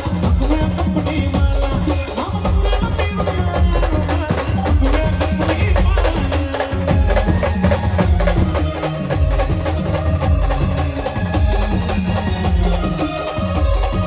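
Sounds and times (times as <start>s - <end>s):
fast dense drumming: 0.0s - 14.0s.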